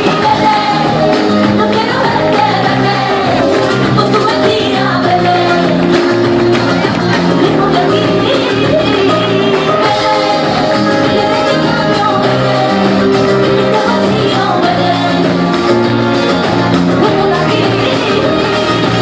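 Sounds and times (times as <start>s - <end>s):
electric guitar: 0.0s - 19.0s
spanish guitar: 0.0s - 19.0s
woman singing: 0.0s - 19.0s.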